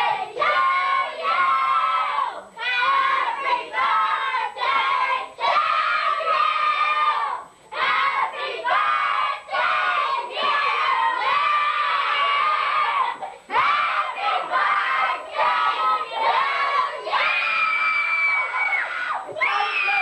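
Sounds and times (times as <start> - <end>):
children shouting: 0.0 - 20.0.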